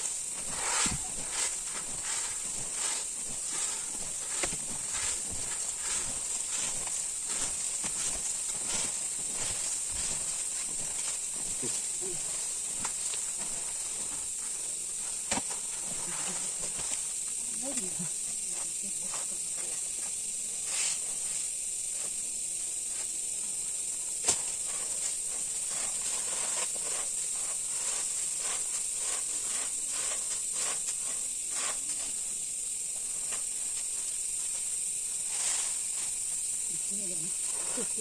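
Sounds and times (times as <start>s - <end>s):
steady high hiss: 0.0s - 38.0s.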